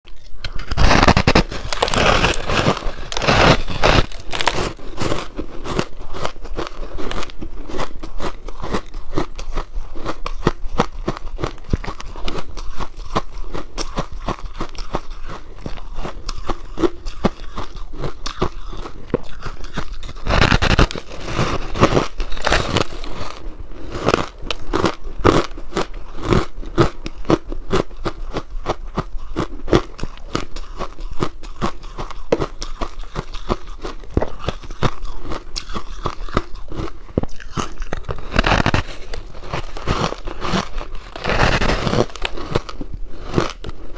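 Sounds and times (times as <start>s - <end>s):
crunching frozen ice cake: 0.1s - 43.9s.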